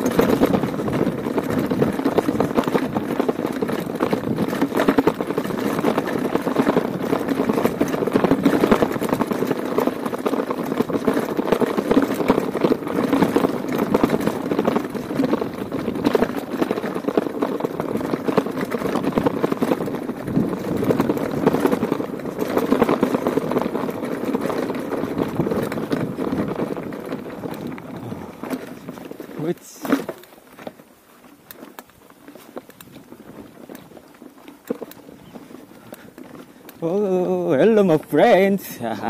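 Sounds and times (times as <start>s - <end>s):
bike rattling over stones: 0.0s - 39.0s.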